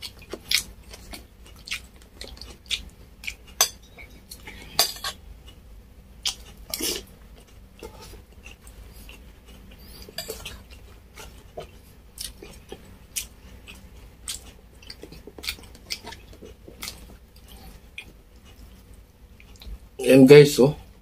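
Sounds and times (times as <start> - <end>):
person chewing with smacks: 0.0 - 5.6, 6.2 - 19.8.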